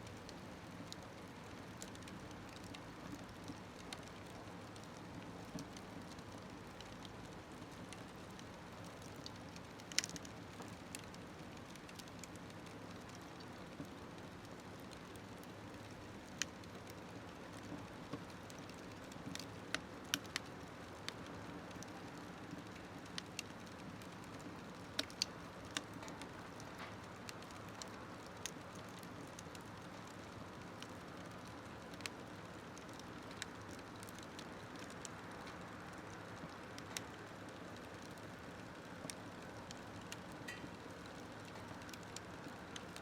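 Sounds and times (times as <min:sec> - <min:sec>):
fire crackling and popping: 0:00.0 - 0:43.0.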